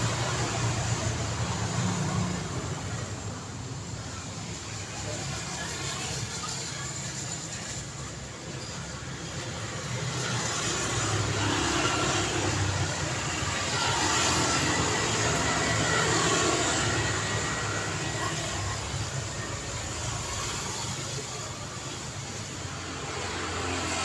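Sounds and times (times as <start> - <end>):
vehicles driving past: 0.0 - 24.0.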